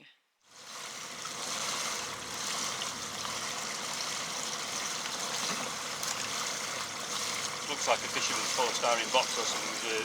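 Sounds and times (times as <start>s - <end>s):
water rushing along hull: 0.5s - 10.0s.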